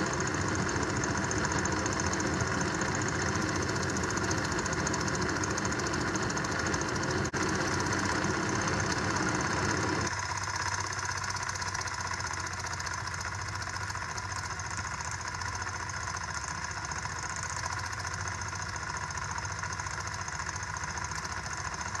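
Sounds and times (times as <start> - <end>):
engine rapid mechanical clatter: 0.0 - 22.0.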